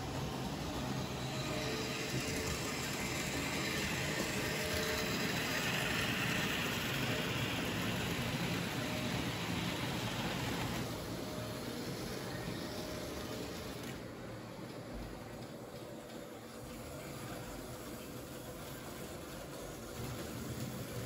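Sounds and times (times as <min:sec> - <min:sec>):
model train wheel and motor noise: 0:00.0 - 0:21.0.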